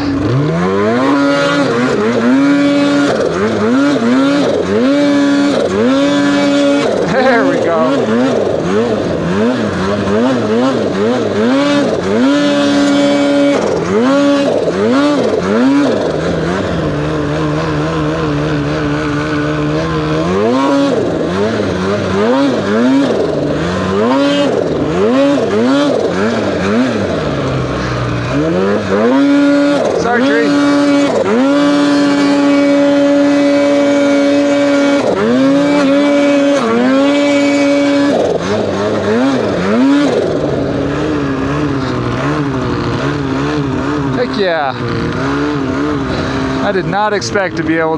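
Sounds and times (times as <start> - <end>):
snowmobile engine revving: 0.0 - 47.9.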